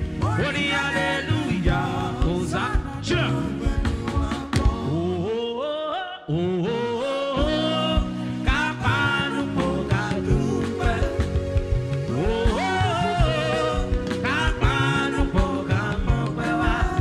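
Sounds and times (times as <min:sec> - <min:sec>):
live band with drum kit: 0:00.0 - 0:05.2, 0:07.4 - 0:17.0
man singing into microphone: 0:00.0 - 0:17.0.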